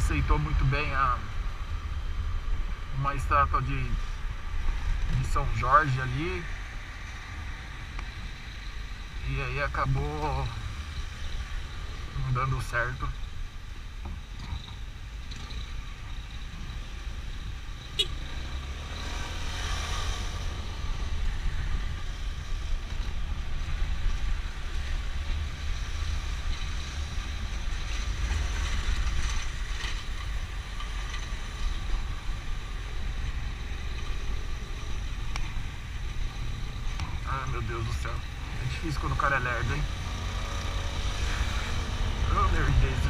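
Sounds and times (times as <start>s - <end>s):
surrounding traffic: 0.0s - 43.0s.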